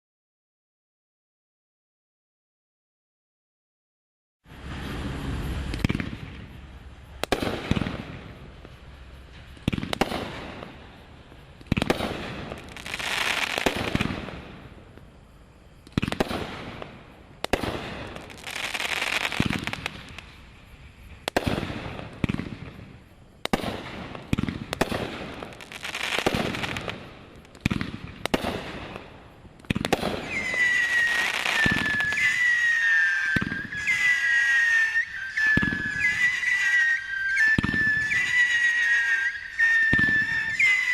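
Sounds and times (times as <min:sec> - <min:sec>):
firework fizz: 0:04.5 - 0:15.1, 0:15.8 - 0:40.9
high falling whistles: 0:04.5 - 0:27.4, 0:29.9 - 0:40.9
firework bangs: 0:04.6 - 0:15.1, 0:15.8 - 0:20.4, 0:21.1 - 0:40.9.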